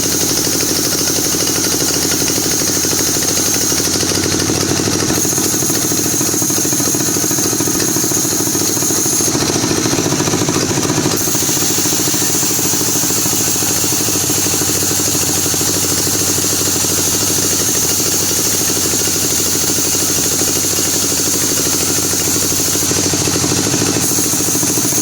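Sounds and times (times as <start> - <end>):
power saw engine running: 0.0 - 25.0.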